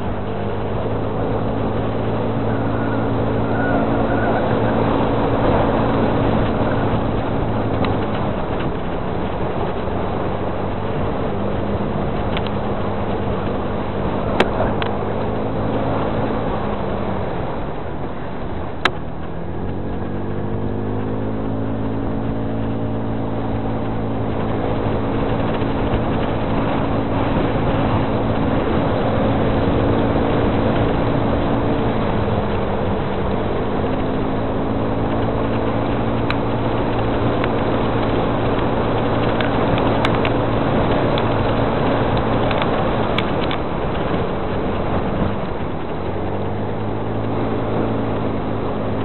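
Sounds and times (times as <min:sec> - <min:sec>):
vehicle engine accelerating: 0:00.0 - 0:49.0.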